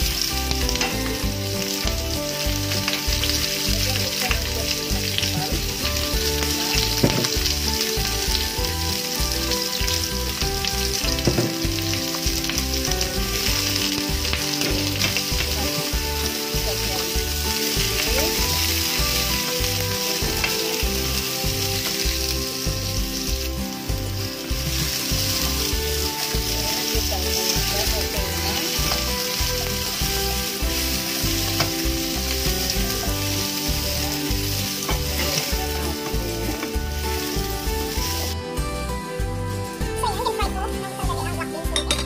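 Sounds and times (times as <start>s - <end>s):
spatula tossing in pan: 0.0s - 38.4s
vegetables sizzling in hot oil: 0.0s - 42.0s.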